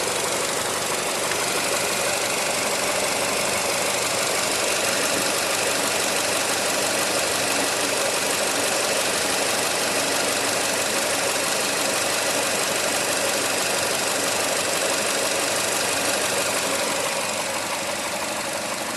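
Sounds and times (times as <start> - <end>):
car engine with mechanical clatter: 0.0 - 18.9.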